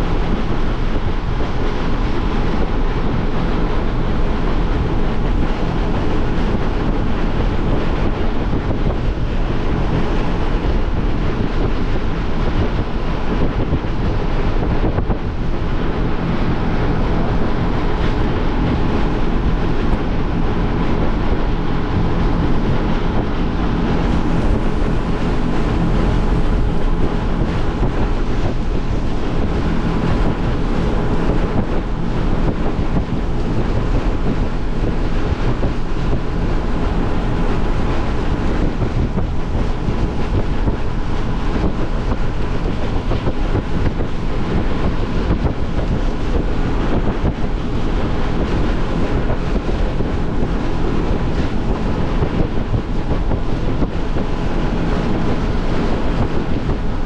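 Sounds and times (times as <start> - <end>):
boat engine drone: 0.0 - 57.0
water slapping along hull: 0.0 - 57.0
wind buffeting microphone: 0.0 - 57.0.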